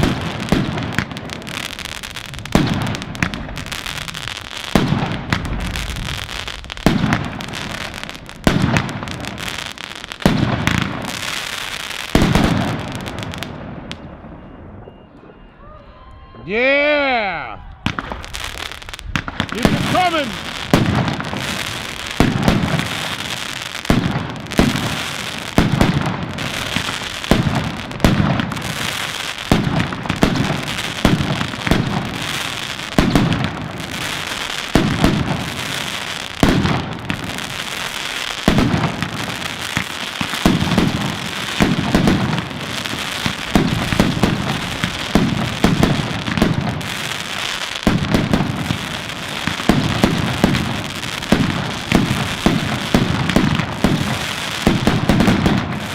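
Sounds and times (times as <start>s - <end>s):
fireworks crackling: 0.0s - 14.4s, 16.1s - 55.9s
fireworks bangs: 0.0s - 55.9s.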